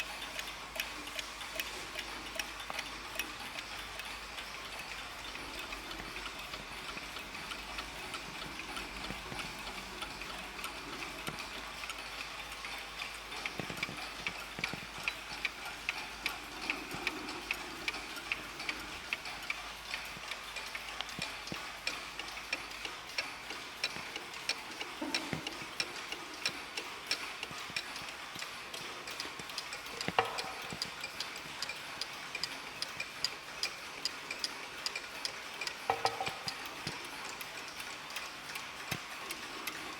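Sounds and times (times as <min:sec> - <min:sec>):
mantel clocks ticking: 0:00.0 - 0:39.9.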